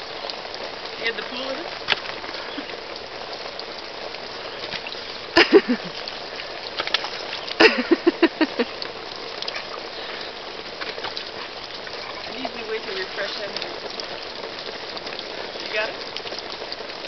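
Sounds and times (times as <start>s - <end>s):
water spraying hiss: 1.0s - 17.0s.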